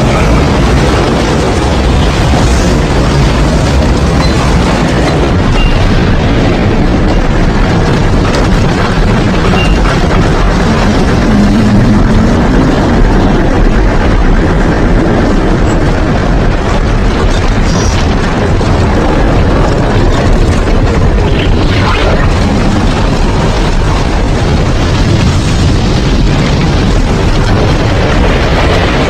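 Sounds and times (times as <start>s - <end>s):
heavy rain pouring: 0.0s - 29.0s
wind gusts buffeting microphone: 0.0s - 29.0s.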